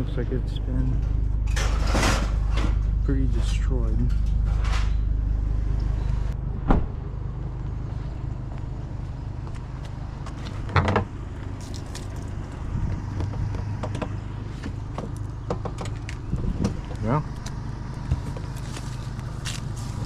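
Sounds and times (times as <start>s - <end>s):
engine clatter: 0.0s - 20.0s
engine rumbling: 0.0s - 20.0s.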